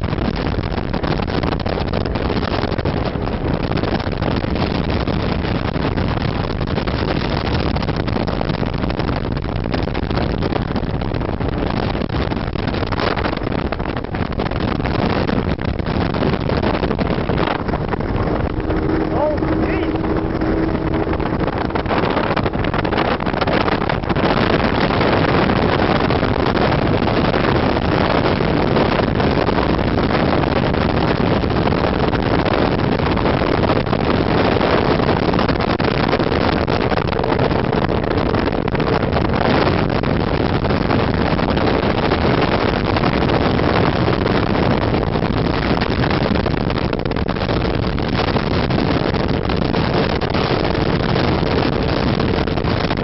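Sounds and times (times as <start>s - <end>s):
outboard motor running: 0.0s - 44.8s
wind on microphone: 0.0s - 53.0s.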